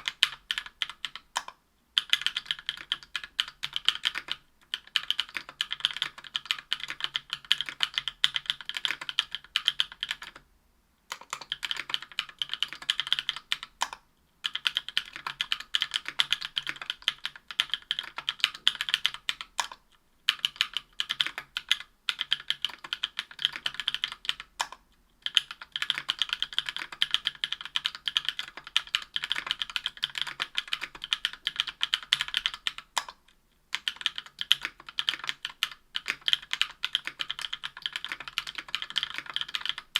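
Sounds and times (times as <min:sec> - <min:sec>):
mechanical keyboard typing: 0:00.0 - 0:10.4, 0:11.1 - 0:39.9.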